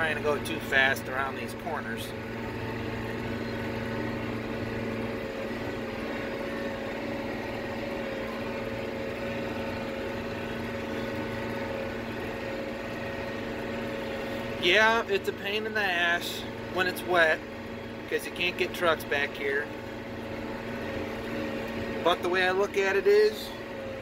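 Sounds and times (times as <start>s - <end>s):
combine harvester hum: 0.0s - 24.0s.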